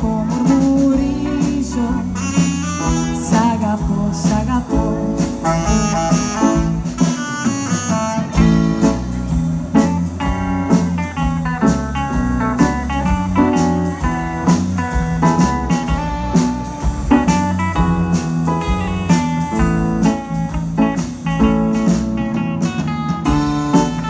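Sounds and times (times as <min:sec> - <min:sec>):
guitar: 0:00.0 - 0:24.0
live swing band playing: 0:00.0 - 0:24.0.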